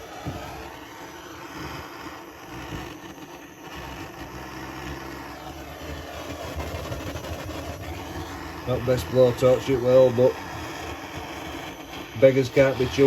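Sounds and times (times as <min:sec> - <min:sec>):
gas blowtorch roaring: 0:00.0 - 0:13.0.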